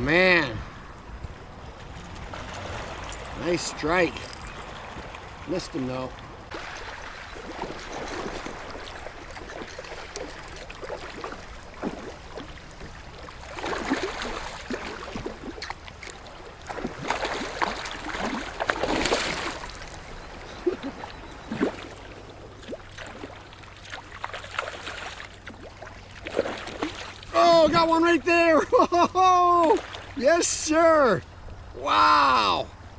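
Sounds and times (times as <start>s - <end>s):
water lapping against kayak hull: 1.6s - 28.5s, 29.2s - 30.4s.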